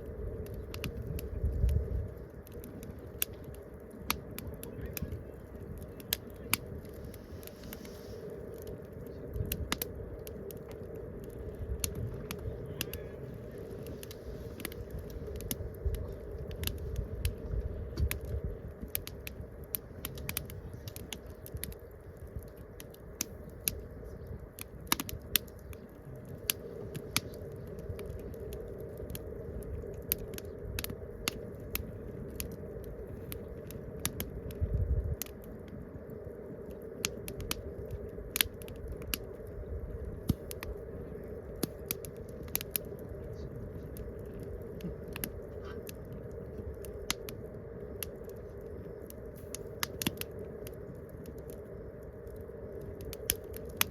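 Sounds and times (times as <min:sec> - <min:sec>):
burning wood popping: 0:00.0 - 0:53.9
campfire crackling: 0:00.0 - 0:53.9
low rumble: 0:00.0 - 0:53.9.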